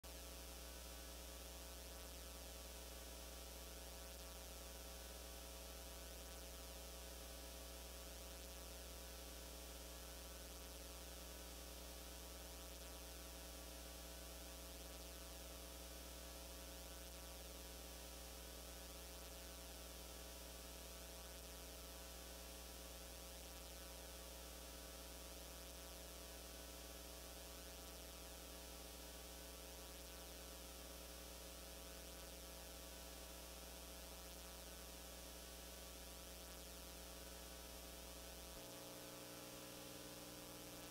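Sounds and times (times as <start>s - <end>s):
faint electrical hum: 0.0s - 40.9s.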